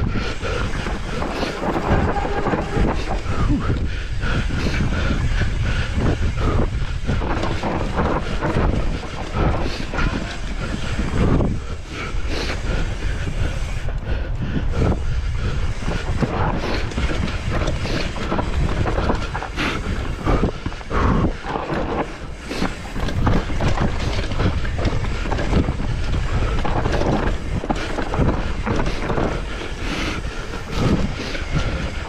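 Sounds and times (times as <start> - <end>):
bike rattling over bumps: 0.0 - 32.0
bike tyre noise on trail: 0.0 - 32.0
wind rumble on microphone: 0.0 - 32.0.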